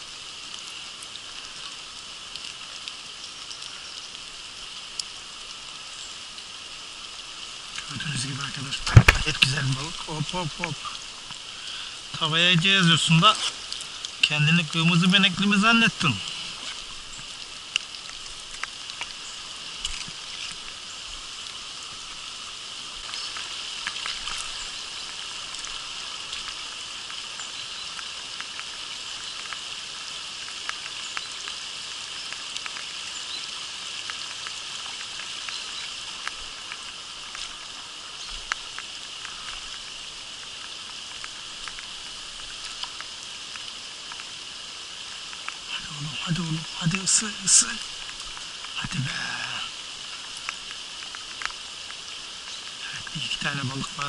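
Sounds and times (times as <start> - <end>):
raindrops ticking close by: 0.0 - 54.0
steady rain patter: 0.0 - 54.0.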